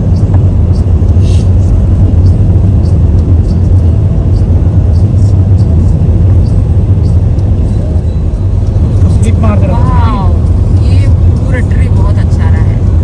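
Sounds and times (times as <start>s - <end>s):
car driving heard from inside: 0.0s - 13.0s.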